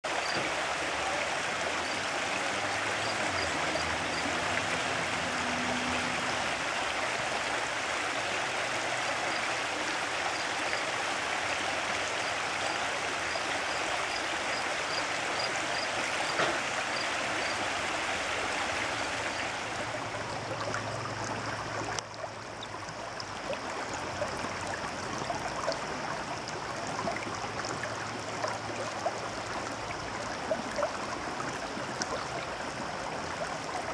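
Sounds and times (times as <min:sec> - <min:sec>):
river flowing over rocks: 0:00.1 - 0:33.9.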